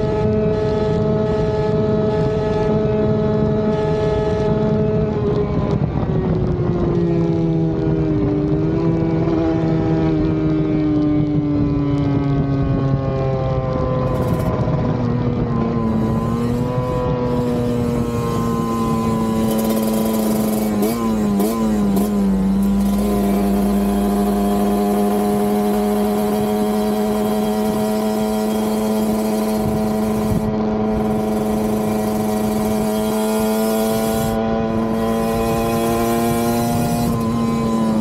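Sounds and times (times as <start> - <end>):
two-stroke engine at high revs: 0.0 - 38.0.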